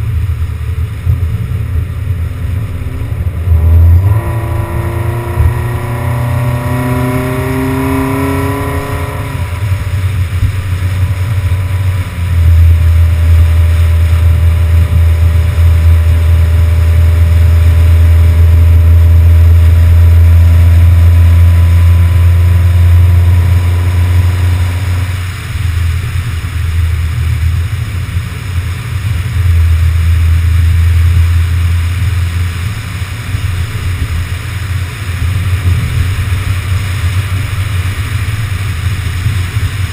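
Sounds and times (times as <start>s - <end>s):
car engine: 0.0s - 39.9s
road noise: 0.0s - 39.9s
wind rumble on microphone: 0.0s - 39.9s.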